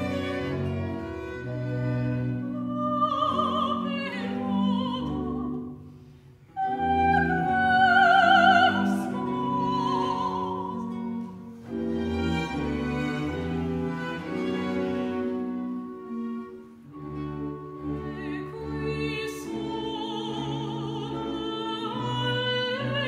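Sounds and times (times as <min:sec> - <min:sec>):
baroque string orchestra: 0:00.0 - 0:23.0.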